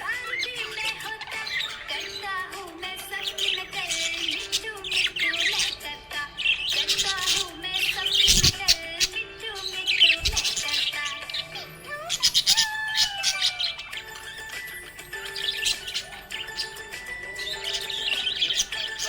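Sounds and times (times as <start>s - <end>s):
background music with held notes: 0.0s - 19.0s
budgies chirping and warbling: 0.0s - 19.0s.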